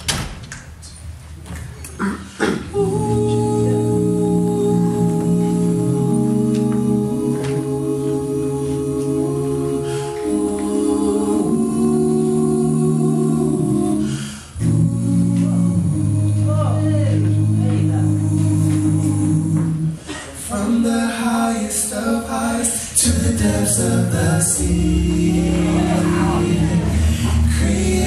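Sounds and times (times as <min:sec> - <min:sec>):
male group singing in harmony: 0:02.7 - 0:28.0.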